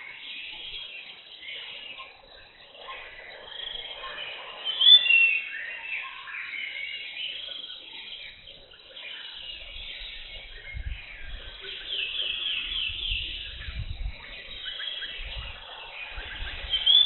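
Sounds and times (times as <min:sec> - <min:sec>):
birds calling and chirping: 0:00.0 - 0:17.0.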